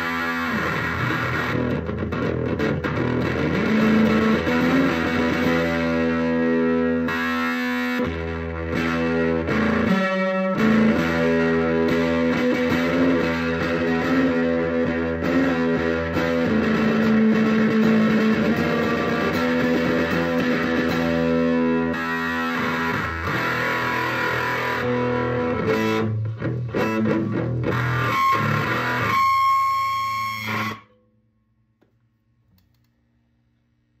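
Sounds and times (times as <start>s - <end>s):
distorted guitar chords: 0.0s - 31.2s.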